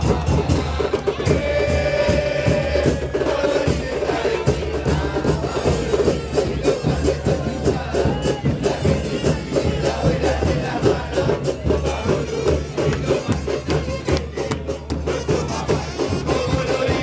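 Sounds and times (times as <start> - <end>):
crowd chanting: 0.0 - 17.0
drums beating: 0.0 - 17.0.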